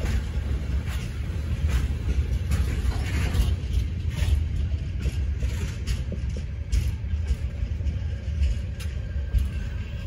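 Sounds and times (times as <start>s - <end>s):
freight train rumbling past: 0.0s - 10.0s
train wheels clacking on rail joints: 0.0s - 10.0s.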